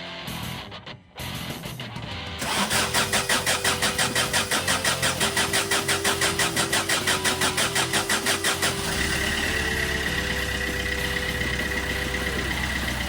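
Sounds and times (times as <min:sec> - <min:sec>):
engine cranking by starter: 0:02.4 - 0:13.0
engine idling: 0:02.4 - 0:13.0.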